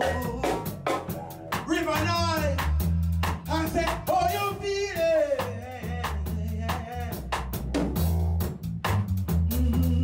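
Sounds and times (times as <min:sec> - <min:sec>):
drum kit beat: 0:00.0 - 0:10.0
sustained bass: 0:00.0 - 0:10.0.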